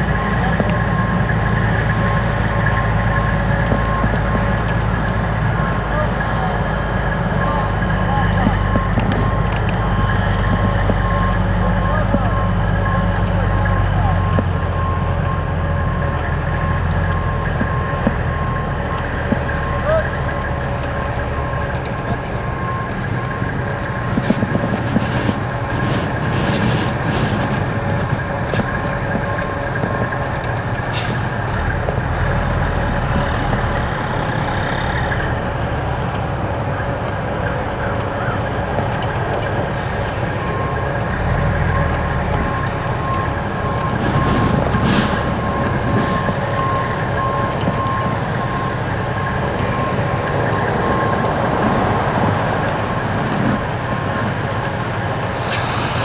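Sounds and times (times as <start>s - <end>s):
constant whine: 0.0s - 56.0s
farm machinery droning: 0.0s - 56.0s.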